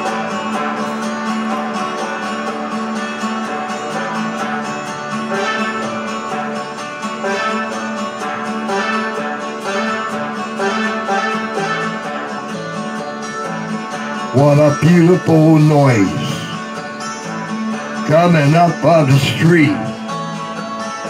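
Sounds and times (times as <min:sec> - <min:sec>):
instrumental karaoke backing track: 0:00.0 - 0:21.0.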